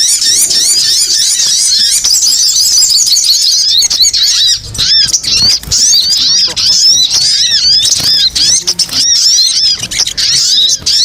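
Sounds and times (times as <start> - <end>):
small birds twittering: 0.0 - 11.0.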